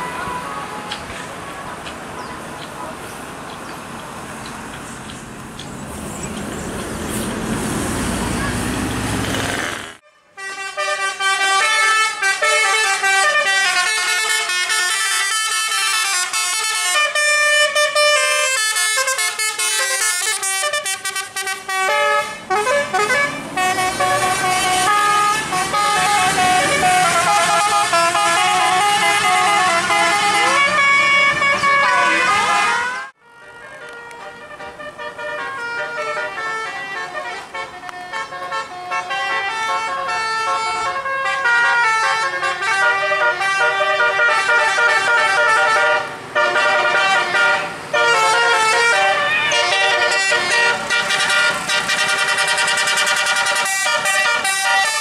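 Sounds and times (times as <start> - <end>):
bus horns playing a tune: 0.0 - 1.1, 9.5 - 55.0.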